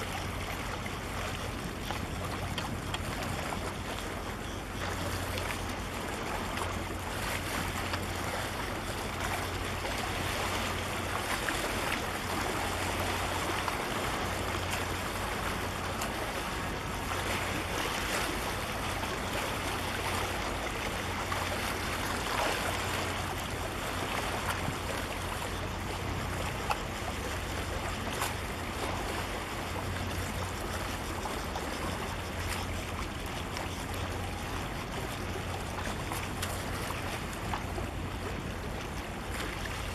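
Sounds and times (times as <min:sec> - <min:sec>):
rushing water: 0:00.0 - 0:39.9
wind: 0:00.0 - 0:39.9.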